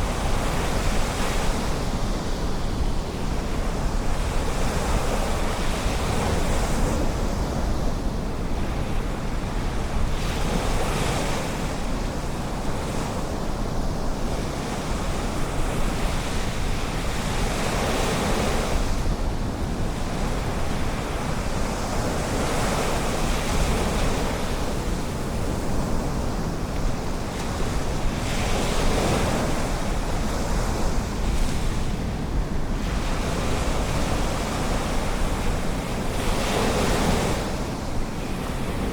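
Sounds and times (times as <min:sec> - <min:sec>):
ocean surf washing ashore: 0:00.0 - 0:38.9
wind rumble on microphone: 0:00.0 - 0:38.9.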